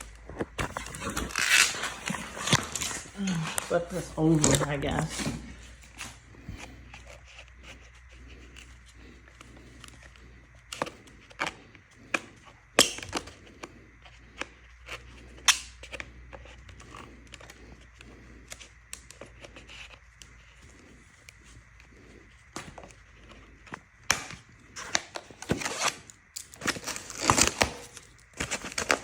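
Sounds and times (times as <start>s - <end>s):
parts and packaging handled: 0.0s - 29.0s.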